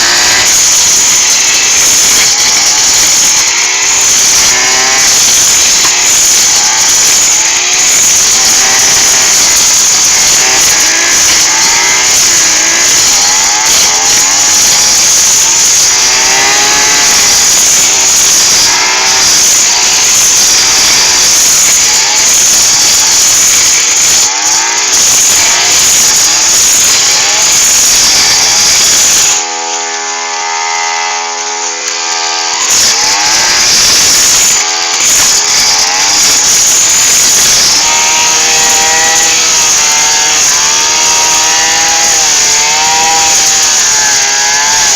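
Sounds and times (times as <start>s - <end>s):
grass cutter engine revving: 0.0s - 44.9s.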